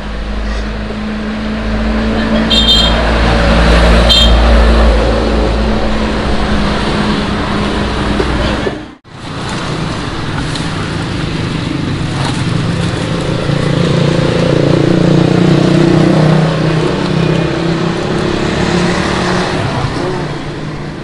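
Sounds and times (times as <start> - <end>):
vehicle engine passing: 0.0 - 20.7.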